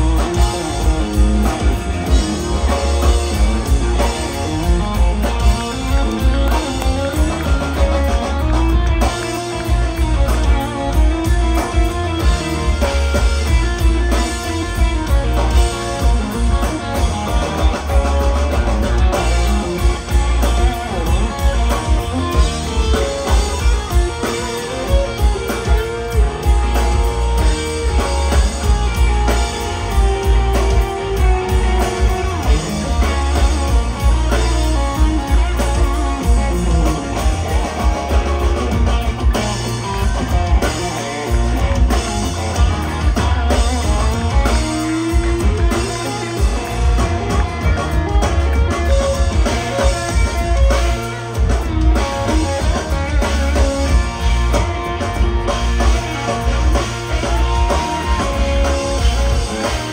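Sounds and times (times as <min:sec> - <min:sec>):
live country band: 0:00.0 - 0:59.9.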